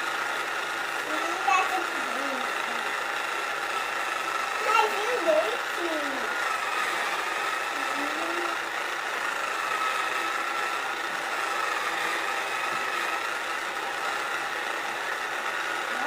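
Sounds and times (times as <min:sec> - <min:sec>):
pottery wheel motor whining: 0:00.0 - 0:16.0.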